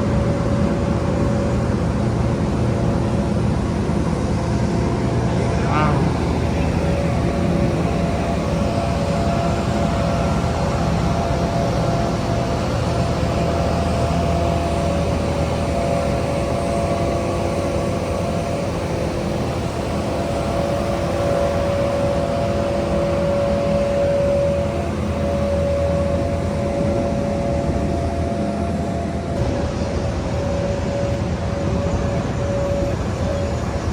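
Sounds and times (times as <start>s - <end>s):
aircraft engine rumble and whine: 0.0s - 33.9s.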